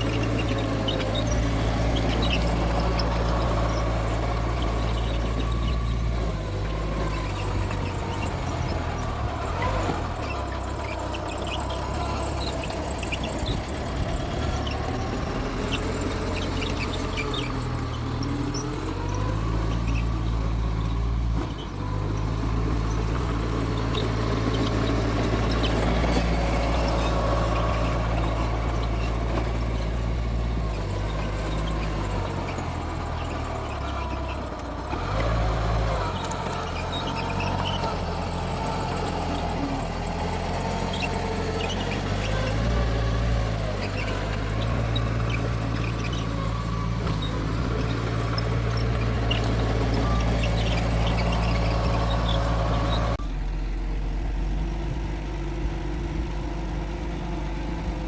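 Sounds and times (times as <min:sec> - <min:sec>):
crawler tracks squealing and clanking: 0:00.0 - 0:53.3
bulldozer engine under load: 0:00.0 - 0:58.0.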